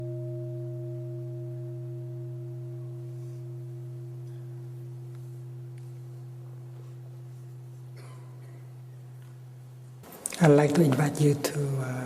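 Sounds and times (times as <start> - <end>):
bowl bell ringing: 0.0 - 10.1.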